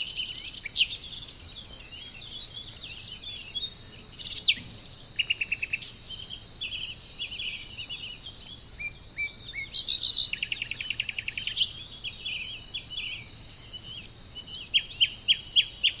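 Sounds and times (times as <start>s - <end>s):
bird trill: 0.0s - 16.0s
birds calling and singing: 0.0s - 16.0s
insects droning: 0.0s - 16.0s.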